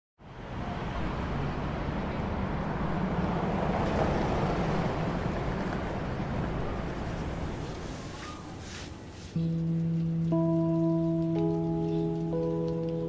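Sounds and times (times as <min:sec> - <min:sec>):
low traffic rumble: 0:00.2 - 0:13.0.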